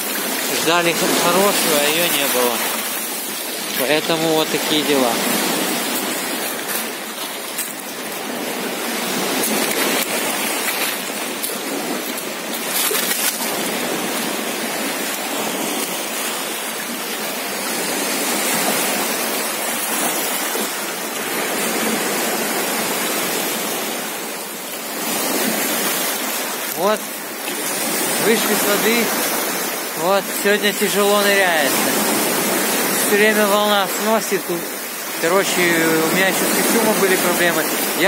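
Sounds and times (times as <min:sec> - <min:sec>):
waves washing over pebble beach: 0:00.0 - 0:38.0.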